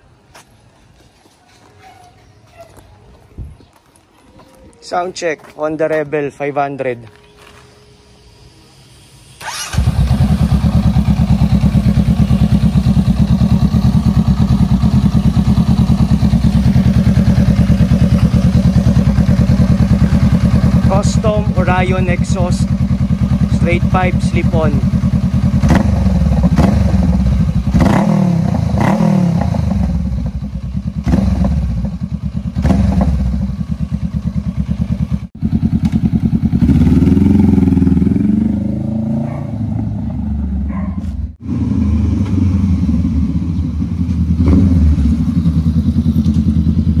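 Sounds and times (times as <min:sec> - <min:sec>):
motorcycle engine with throttle blips: 0:09.4 - 0:47.0.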